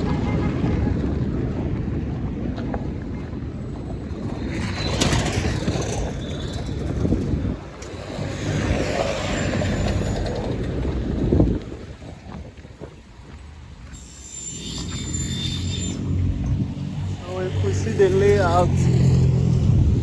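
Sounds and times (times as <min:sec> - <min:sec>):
steady low traffic rumble: 0:00.0 - 0:20.0
vehicles passing: 0:00.0 - 0:20.0.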